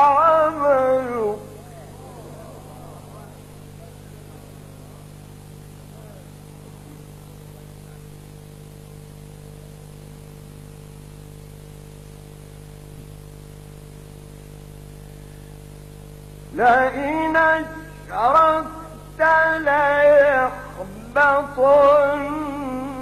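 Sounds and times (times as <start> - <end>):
constant hiss: 0.0 - 23.0
electrical hum with low tones: 0.0 - 23.0.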